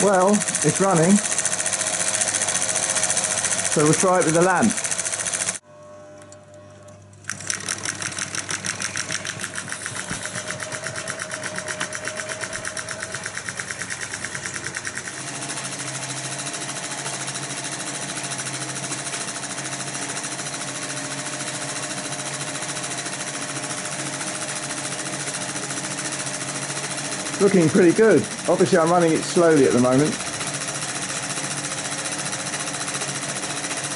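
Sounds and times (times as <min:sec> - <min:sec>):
film projector clattering: 0:00.0 - 0:05.6, 0:07.2 - 0:33.9.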